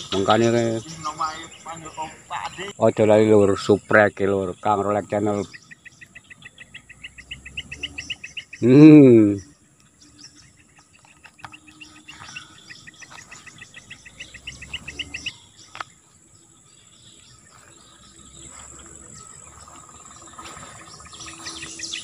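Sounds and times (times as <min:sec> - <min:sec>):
birds chirping: 0:00.0 - 0:22.0
insect trill: 0:00.0 - 0:22.0.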